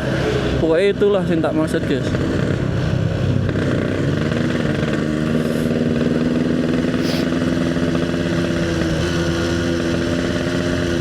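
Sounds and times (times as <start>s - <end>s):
two-stroke motorcycle engine running: 0.0s - 11.0s.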